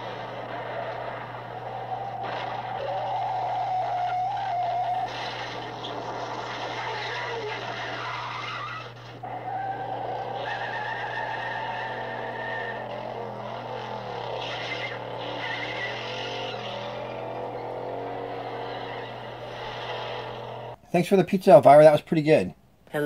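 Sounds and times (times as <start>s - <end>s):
car engines revving: 0.0s - 20.8s
tyres squealing: 0.0s - 20.8s.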